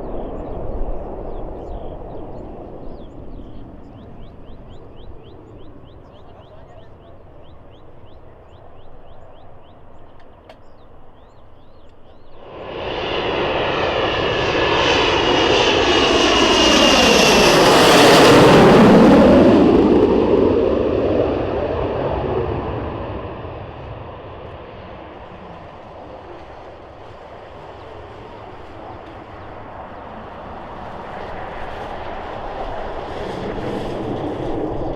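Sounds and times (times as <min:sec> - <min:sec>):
jet passing by: 0:00.0 - 0:34.9.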